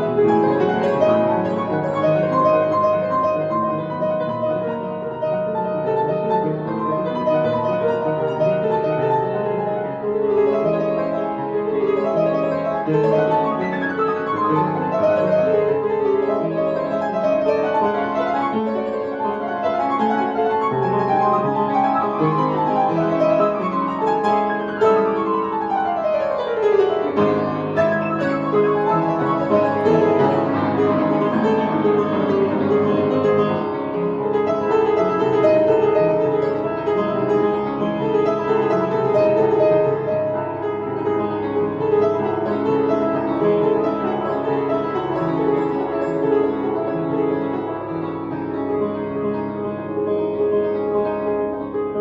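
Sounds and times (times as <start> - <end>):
piano music with downward runs: 0.0 - 52.0.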